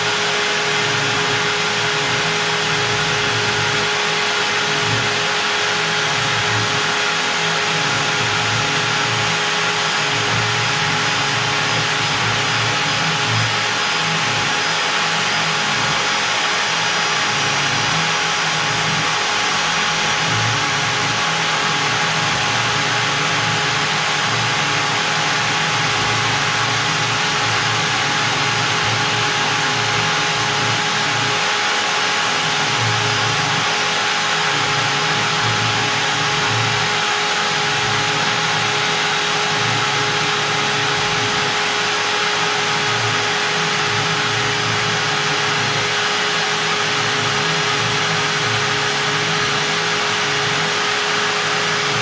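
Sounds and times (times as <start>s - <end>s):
router spindle whine milling wood: 0.0s - 52.0s.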